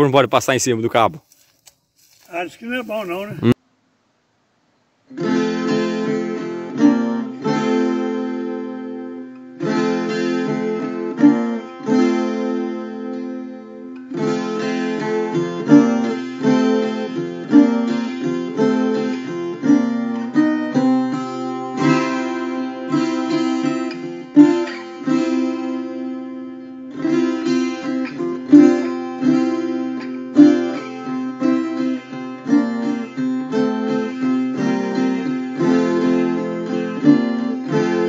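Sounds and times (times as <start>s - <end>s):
acoustic guitar playing: 5.1s - 38.0s.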